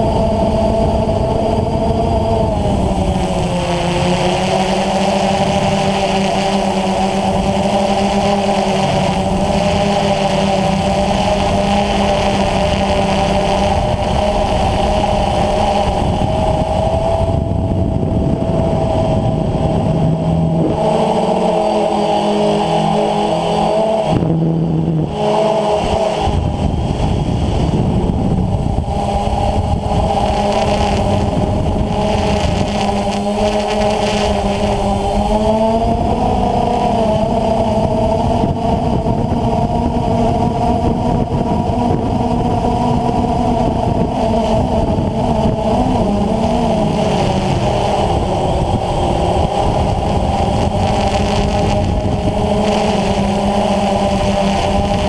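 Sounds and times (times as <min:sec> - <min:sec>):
drone motors humming: 0:00.0 - 0:55.0.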